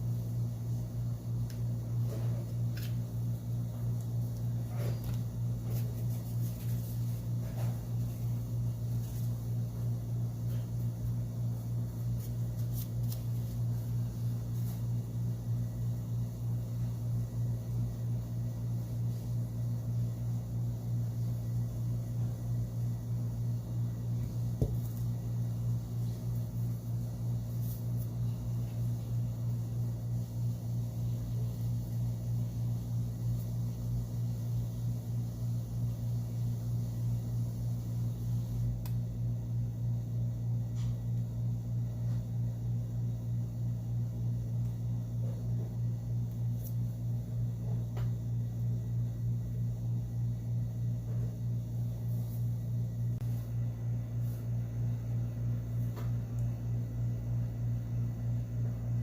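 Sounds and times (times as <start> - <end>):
steady pulsing low hum: 0.0 - 59.0.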